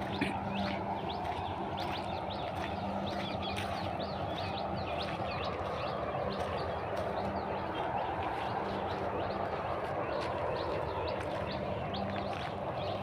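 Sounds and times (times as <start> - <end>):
small birds chirping: 0.0 - 13.0
steady background rush: 0.0 - 13.0.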